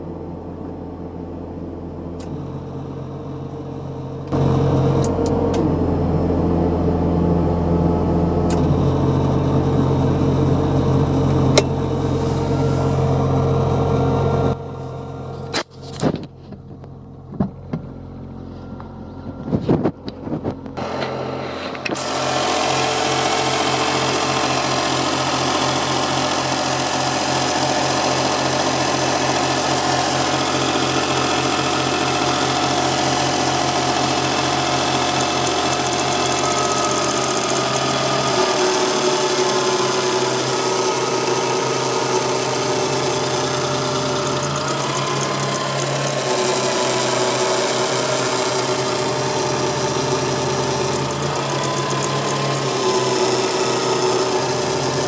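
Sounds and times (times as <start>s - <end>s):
car engine idling: 0.1s - 55.0s.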